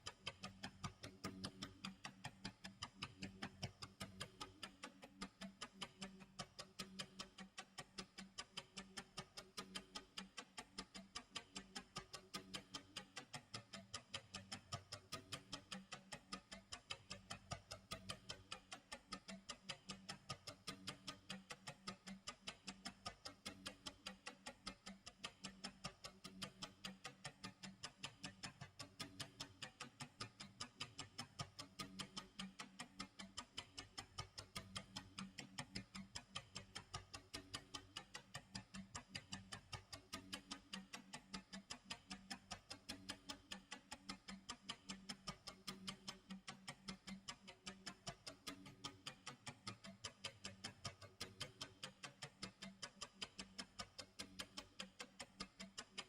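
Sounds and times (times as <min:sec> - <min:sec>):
faint clock ticking: 0:00.0 - 0:56.0.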